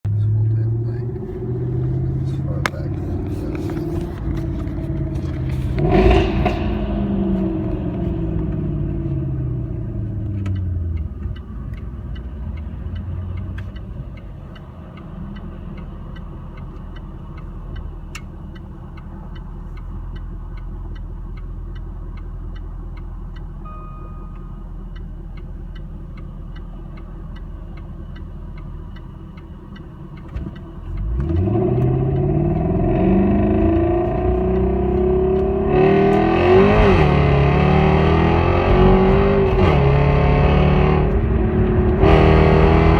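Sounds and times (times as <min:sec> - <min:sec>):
car engine revving: 0:00.1 - 0:23.6, 0:24.7 - 0:42.9
faint regular ticking: 0:00.2 - 0:42.8.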